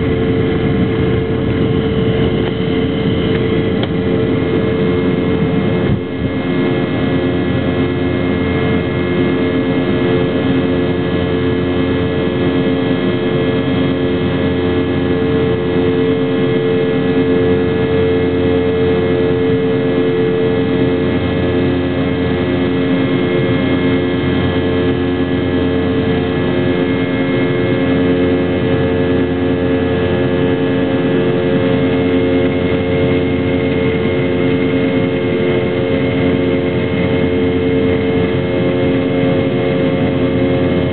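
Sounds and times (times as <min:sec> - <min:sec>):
jet engines droning: 0:00.0 - 0:40.9.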